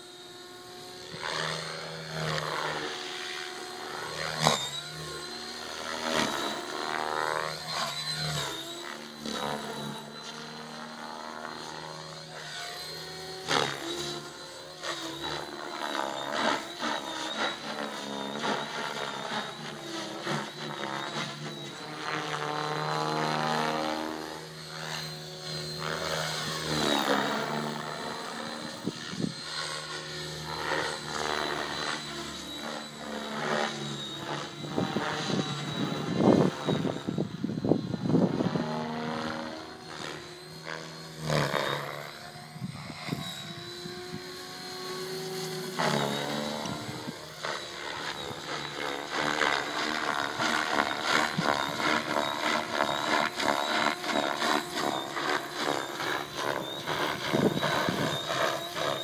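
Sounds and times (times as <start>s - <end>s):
rc helicopter rotor whining: 0.0s - 59.0s.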